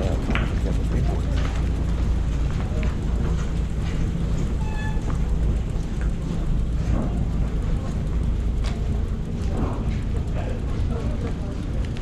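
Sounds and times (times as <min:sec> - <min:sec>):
ferry engine rumbling: 0:00.0 - 0:12.0.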